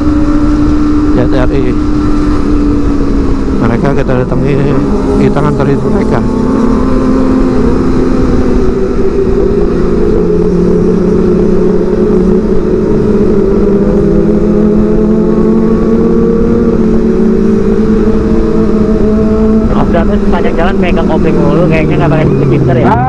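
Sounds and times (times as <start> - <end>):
motorcycle engine cruising: 0.0 - 23.0
road noise: 0.0 - 23.0
rushing wind: 0.0 - 23.0.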